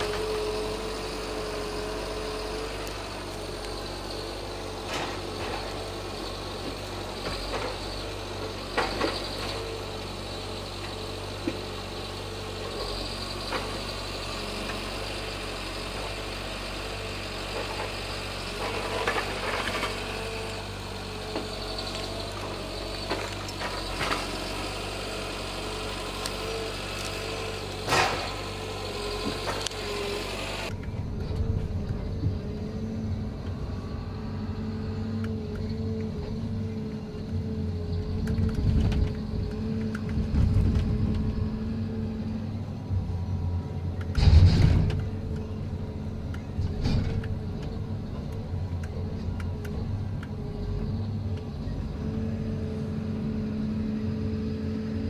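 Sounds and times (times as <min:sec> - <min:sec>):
forestry machine humming and whining: 0:00.0 - 0:55.0.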